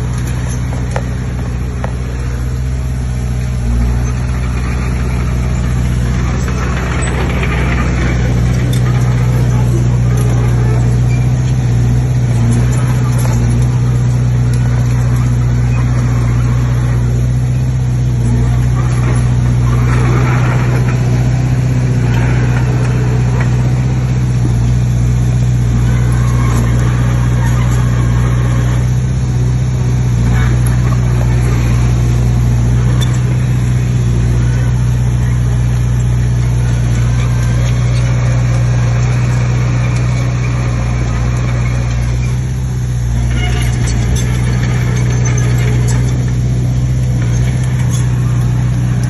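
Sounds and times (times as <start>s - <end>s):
heavy diesel engine running: 0.0s - 49.0s.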